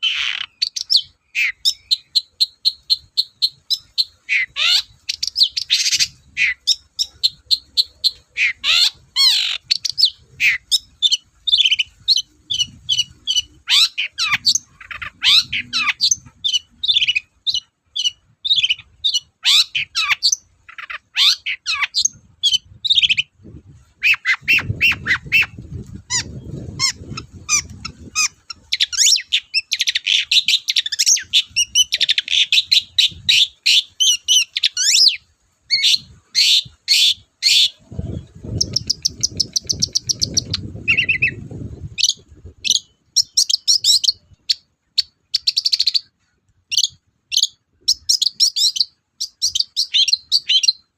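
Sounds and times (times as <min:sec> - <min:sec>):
bird singing chirps and whistles: 0:00.0 - 0:46.1, 0:46.7 - 0:50.8
harsh bird squawks: 0:00.0 - 0:46.1, 0:46.7 - 0:50.8.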